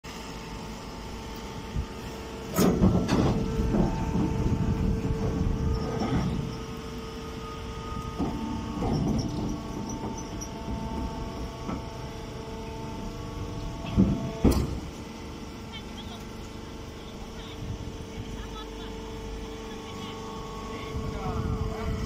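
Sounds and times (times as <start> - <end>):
baler machine hum: 0.1 - 22.0.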